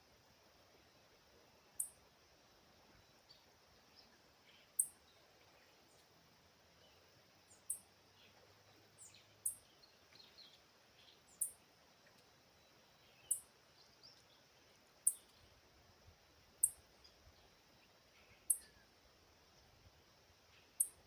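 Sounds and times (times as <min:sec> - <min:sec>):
faint outdoor background noise: 0:00.0 - 0:21.0.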